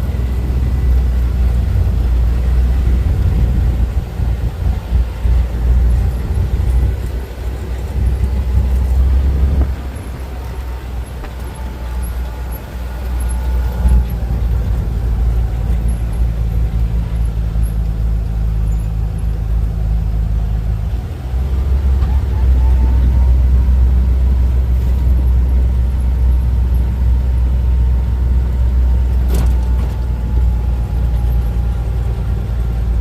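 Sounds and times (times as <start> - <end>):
vehicle rumble: 0.0 - 33.0.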